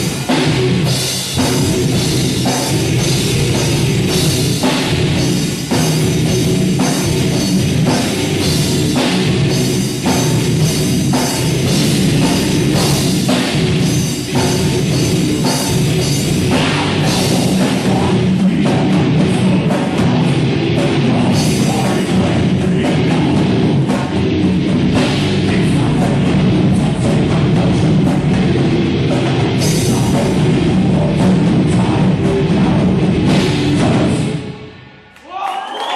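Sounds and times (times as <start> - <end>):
electric guitar: 0.0 - 34.8
pounding drum kit: 0.0 - 35.9.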